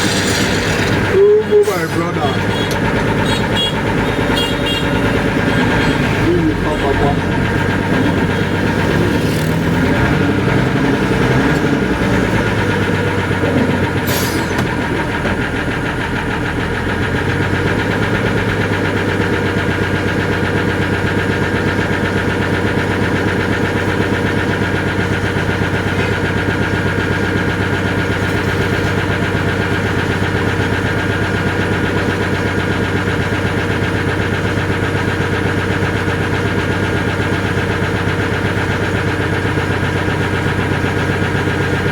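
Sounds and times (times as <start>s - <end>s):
engine running steadily: 0.0s - 41.9s.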